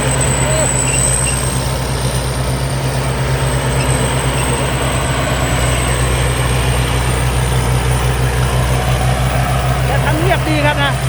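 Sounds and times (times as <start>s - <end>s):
diesel engine running: 0.0s - 11.0s
high-pitched whine: 0.0s - 11.0s.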